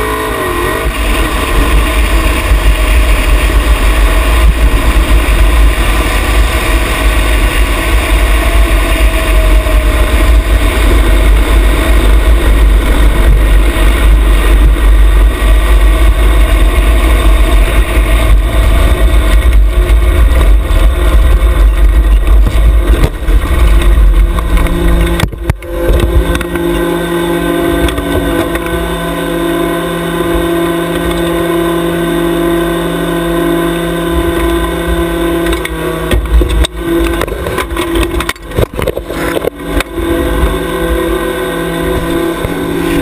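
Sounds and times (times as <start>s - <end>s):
heavy low rumble: 0.0s - 43.0s
single-cylinder engine running: 0.0s - 43.0s.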